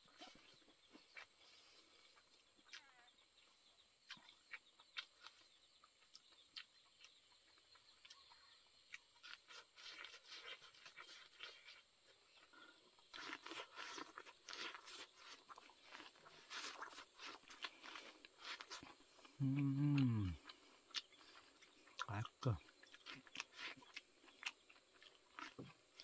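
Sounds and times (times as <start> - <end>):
chewing corn with crackles: 0.0 - 26.0.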